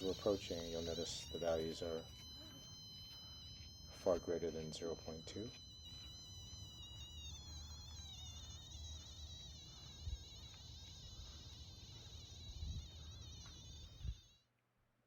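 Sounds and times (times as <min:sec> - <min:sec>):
wavering electronic whine: 0:00.0 - 0:14.4.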